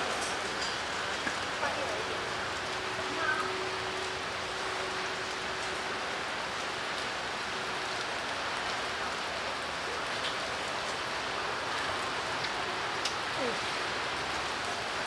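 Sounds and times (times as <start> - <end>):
rain drop ticks: 0.0 - 15.0
steady rain falling: 0.0 - 15.0.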